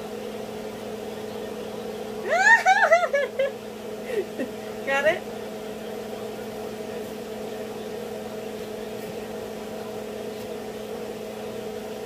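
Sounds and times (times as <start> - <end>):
appliance hum: 0.0 - 12.0.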